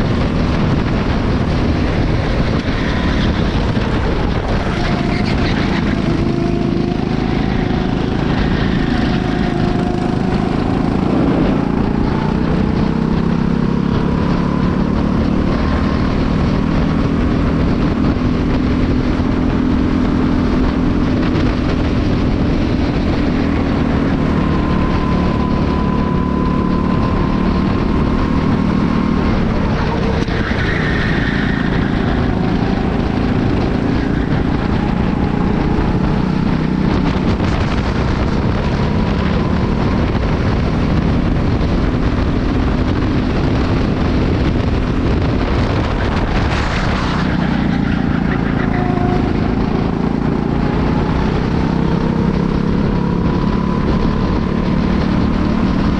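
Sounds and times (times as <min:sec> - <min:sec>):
go-kart engine running hard: 0:00.0 - 0:55.9.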